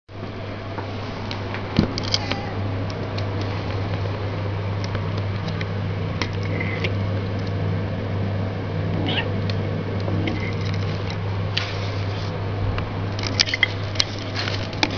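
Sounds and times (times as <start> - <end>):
low hum: 0.1 - 14.9.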